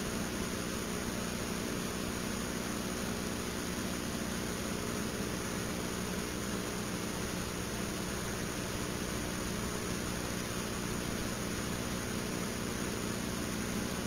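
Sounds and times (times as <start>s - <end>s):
steady background hum and hiss: 0.0s - 14.0s.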